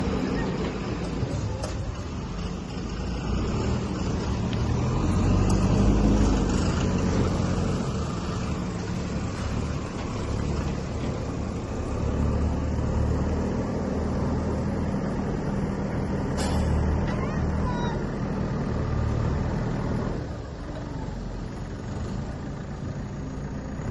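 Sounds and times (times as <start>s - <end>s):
diesel engine running under load: 0.0s - 23.9s.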